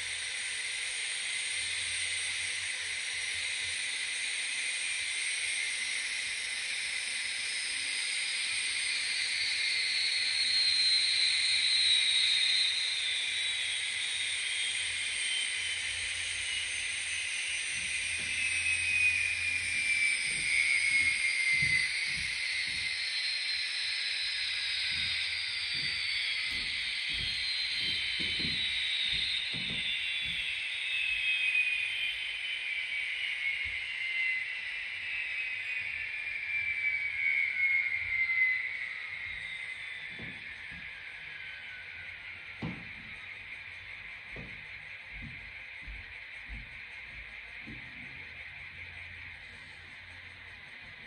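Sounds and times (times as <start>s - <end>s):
model turbine locomotive hiss and whine: 0.0s - 51.0s.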